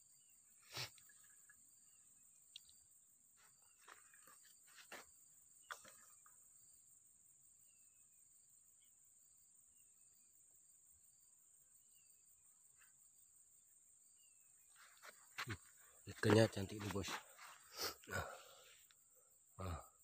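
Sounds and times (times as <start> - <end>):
short insect chirp: 0.0 - 20.0.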